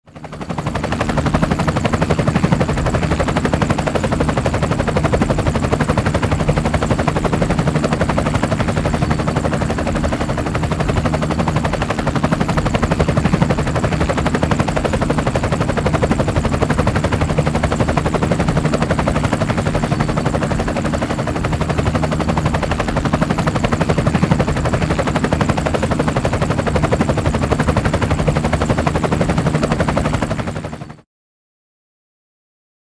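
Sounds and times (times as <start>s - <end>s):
helicopter engine drone: 0.1s - 31.0s
helicopter rotor chop: 0.1s - 31.0s.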